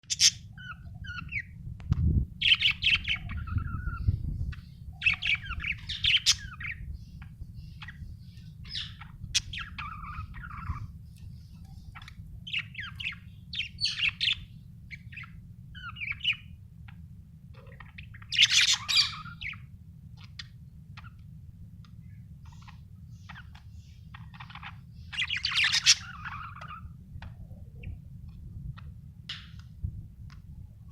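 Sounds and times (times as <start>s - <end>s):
steady low hum: 0.0s - 30.9s
budgerigar chirping and chattering: 0.1s - 1.5s, 2.4s - 21.3s, 22.4s - 28.0s.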